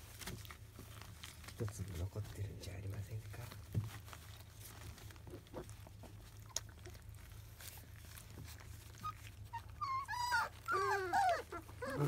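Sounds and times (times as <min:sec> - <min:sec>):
puppies lapping food: 0:00.0 - 0:12.0.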